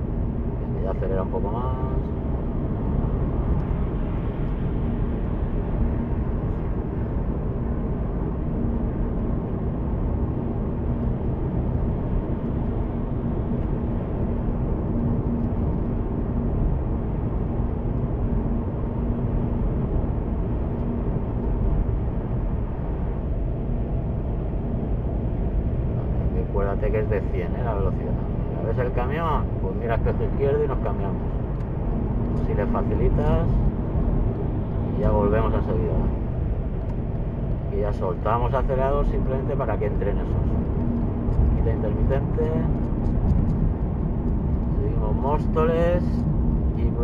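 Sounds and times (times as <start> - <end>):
car road and engine rumble: 0.0 - 47.0
faint steady hum: 0.0 - 47.0.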